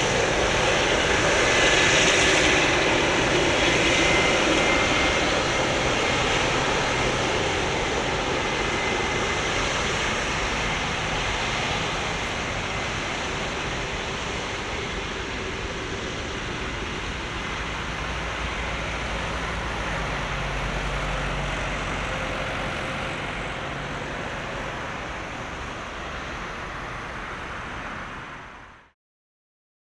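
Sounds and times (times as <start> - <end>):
jet engines rushing with whine: 0.0 - 29.0.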